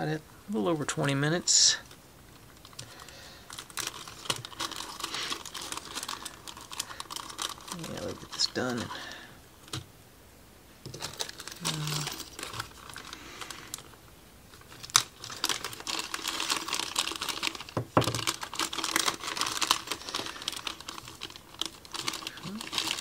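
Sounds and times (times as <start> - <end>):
plastic bag crinkling: 1.5 - 9.8, 10.8 - 23.0.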